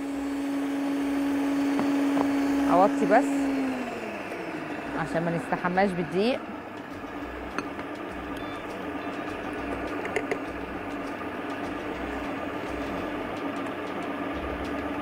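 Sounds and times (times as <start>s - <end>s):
electric stand mixer humming: 0.0s - 15.0s.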